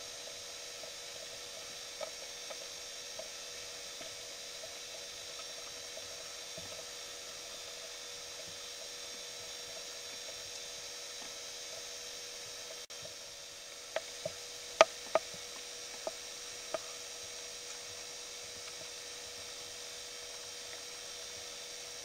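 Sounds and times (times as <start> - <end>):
electrical hum: 0.0 - 22.0
steady hiss: 0.0 - 22.0.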